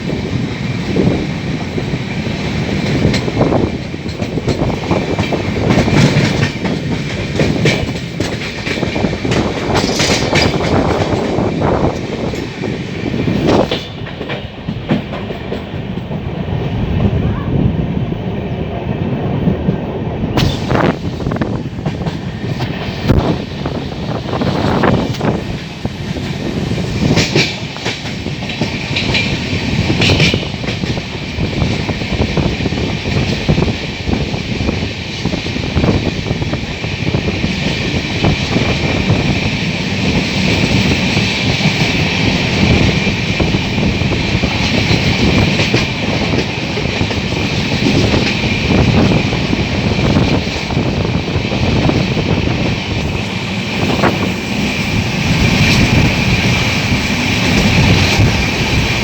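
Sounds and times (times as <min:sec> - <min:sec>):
train rumbling on track: 0:00.0 - 0:59.0.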